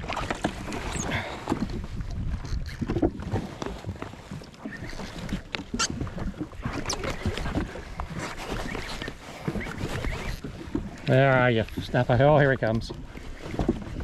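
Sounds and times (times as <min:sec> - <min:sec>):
water slapping against hull: 0:00.0 - 0:14.0.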